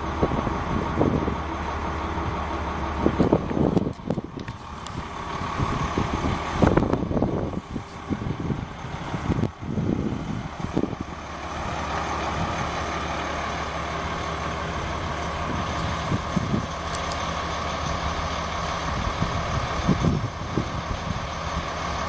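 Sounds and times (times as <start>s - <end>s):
diesel bus engine idling: 0.0s - 22.0s
wind gusting on microphone: 0.0s - 22.0s.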